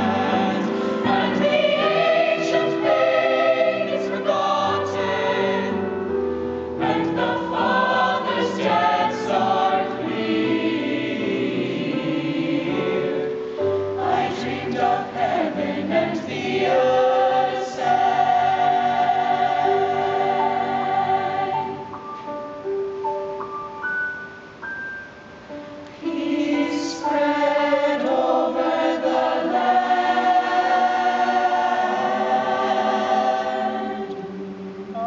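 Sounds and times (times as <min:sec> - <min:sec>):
youth choir singing: 0:00.0 - 0:22.0, 0:26.0 - 0:35.0.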